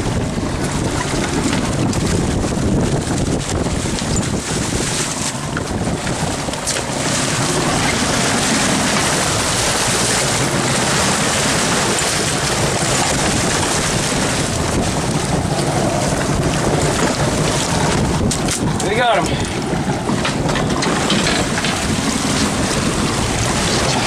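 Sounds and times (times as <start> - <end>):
sea water splashing against boat: 0.0 - 24.0
wind buffeting the microphone: 0.0 - 24.0
fish thrashing at the surface: 0.2 - 24.0.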